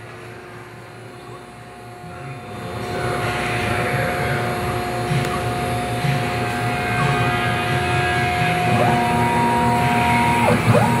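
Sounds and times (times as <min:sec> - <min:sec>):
cnc router mechanical whine: 0:00.5 - 0:11.0.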